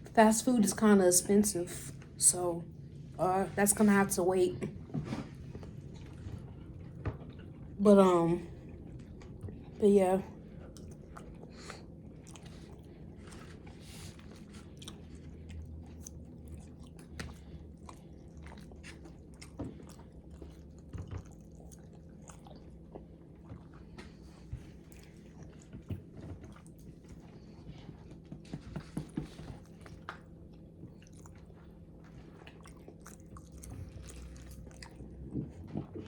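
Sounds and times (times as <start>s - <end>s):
steady low hum: 0.0s - 36.0s
person chewing food: 4.8s - 7.8s, 8.5s - 36.0s.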